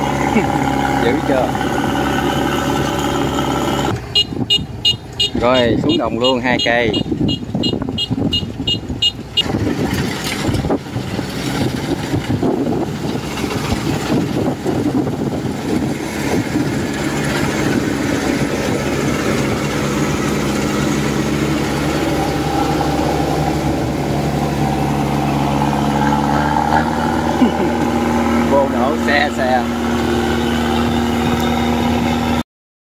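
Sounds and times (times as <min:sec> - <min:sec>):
diesel engines droning: 0:00.0 - 0:32.4
engine knocks: 0:00.0 - 0:32.4.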